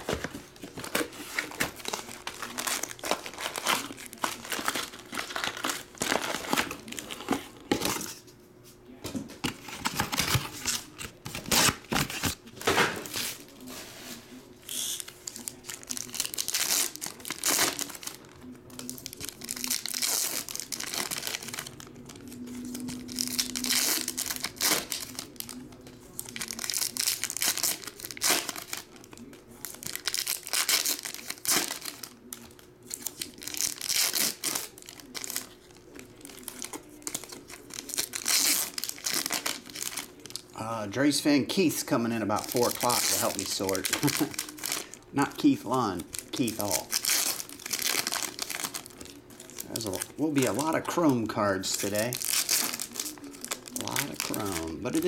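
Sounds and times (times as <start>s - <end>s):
foil wrappers tearing and crinkling: 0.0s - 8.1s, 9.4s - 13.6s, 14.6s - 55.0s.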